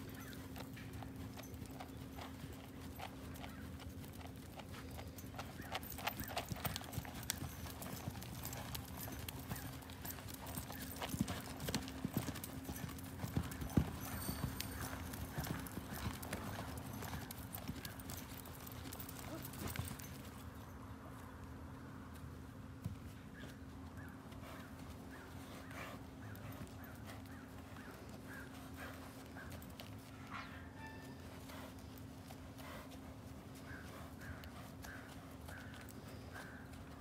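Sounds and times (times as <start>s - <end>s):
horse hoofbeats on sand: 0.0s - 20.4s, 24.0s - 37.0s.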